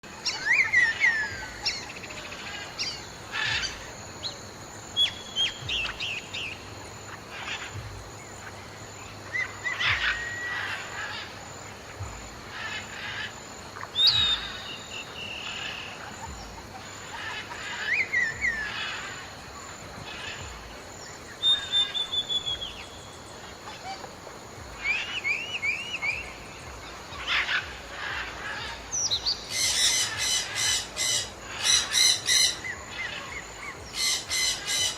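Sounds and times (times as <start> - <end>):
birds chirping and trilling: 0.0 - 34.9
steady background hiss: 0.0 - 34.9.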